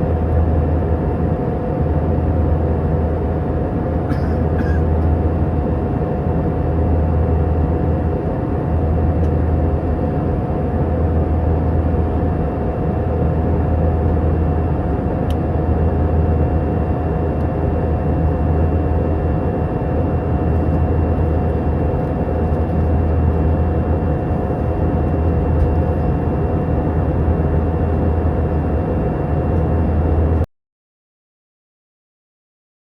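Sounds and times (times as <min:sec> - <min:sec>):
aircraft engine drone: 0:00.0 - 0:30.5.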